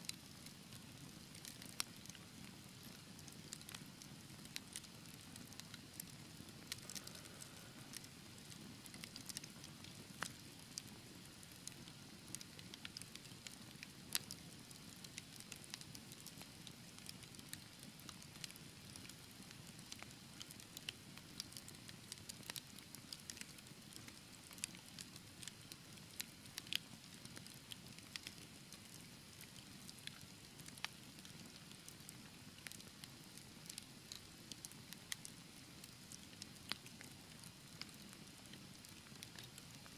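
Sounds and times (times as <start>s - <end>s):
fire crackling and popping: 0.1s - 39.9s.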